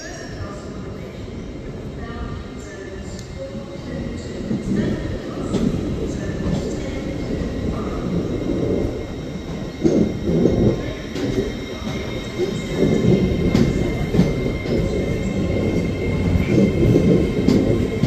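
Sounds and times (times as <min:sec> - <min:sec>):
train wheels rumbling: 0:00.6 - 0:18.0.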